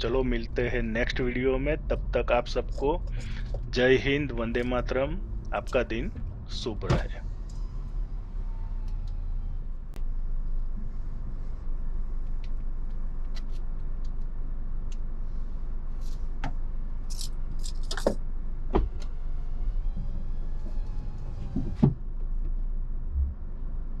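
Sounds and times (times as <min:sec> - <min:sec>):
car interior rumble: 0:00.0 - 0:24.0.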